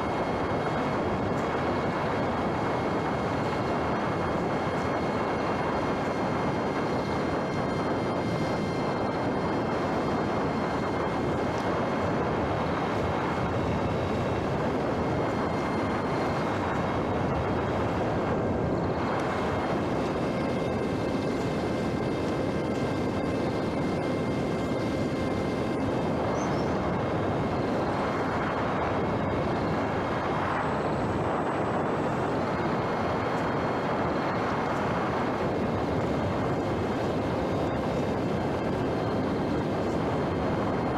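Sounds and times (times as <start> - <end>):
model airplane motor whine: 0.0 - 40.9
rushing noise: 0.0 - 40.9.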